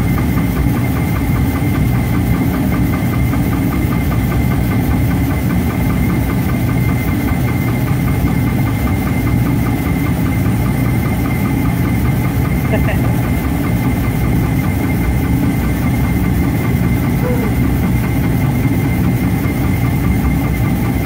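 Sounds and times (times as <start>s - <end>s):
shop machinery running: 0.0s - 21.0s.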